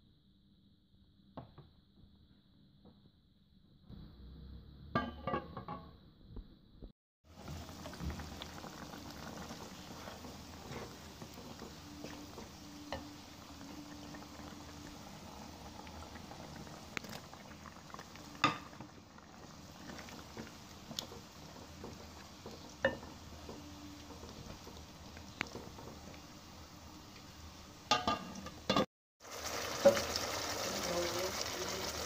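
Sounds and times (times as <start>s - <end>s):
meat simmering and bubbling: 6.3s - 32.0s.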